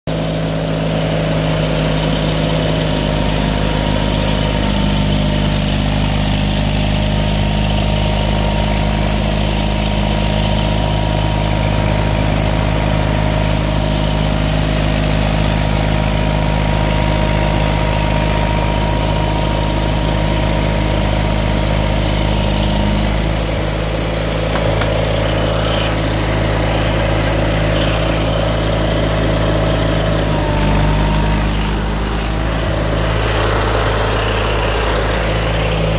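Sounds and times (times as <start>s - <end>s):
garden tractor engine running: 0.1s - 35.9s
snowblower throwing snow: 0.2s - 35.9s.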